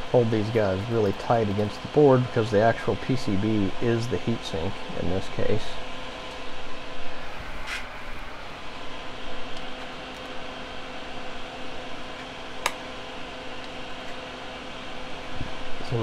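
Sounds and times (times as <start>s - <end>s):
faint hum: 0.0s - 16.0s
small fan whirring: 0.0s - 16.0s.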